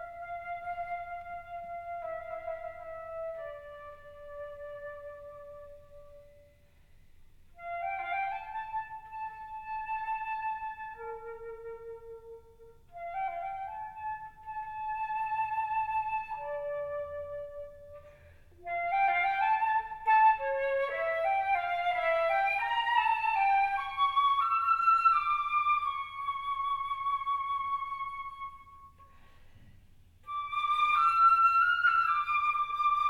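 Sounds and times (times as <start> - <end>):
solo flute melody: 0.0 - 6.8, 7.5 - 29.4, 30.2 - 33.0.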